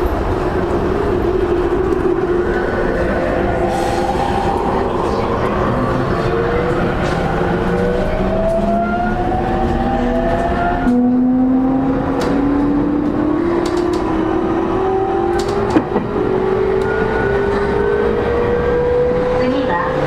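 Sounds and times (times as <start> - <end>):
train running gear rumble: 0.0 - 19.9.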